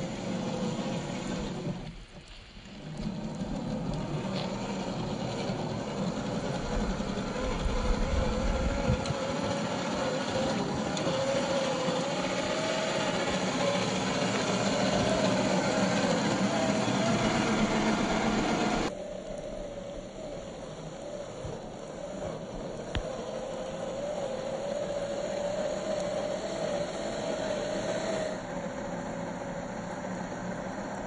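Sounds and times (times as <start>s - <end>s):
electric motor whining: 0.0s - 30.6s.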